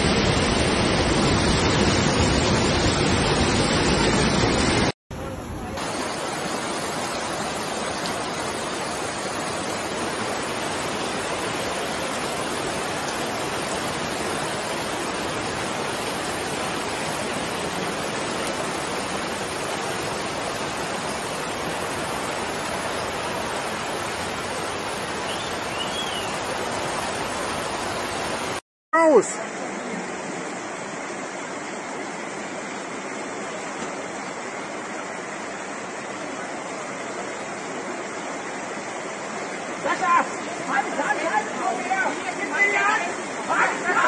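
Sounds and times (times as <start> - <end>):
floodwater rushing across street: 0.0 - 44.0.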